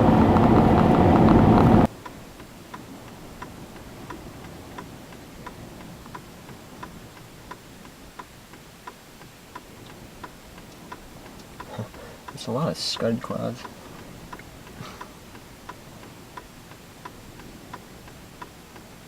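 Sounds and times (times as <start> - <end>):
rush of vehicle noise: 0.0 - 19.0
car indicator clicking: 1.3 - 18.9.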